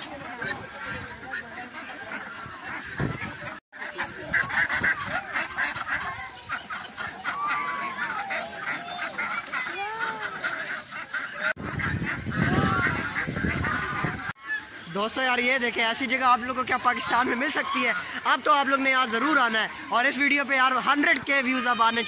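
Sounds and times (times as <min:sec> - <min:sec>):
ducks quacking: 0:00.0 - 0:22.0
geese honking: 0:00.0 - 0:22.0.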